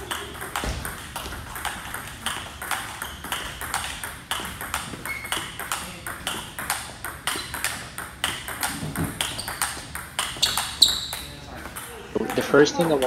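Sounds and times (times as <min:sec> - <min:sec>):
ball bouncing on table: 0:00.0 - 0:12.4
ball clicking off paddles: 0:00.0 - 0:13.0.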